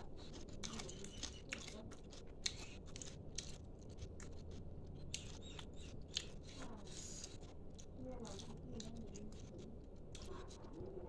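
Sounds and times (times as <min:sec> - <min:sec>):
chewing and crunching: 0:00.0 - 0:11.0.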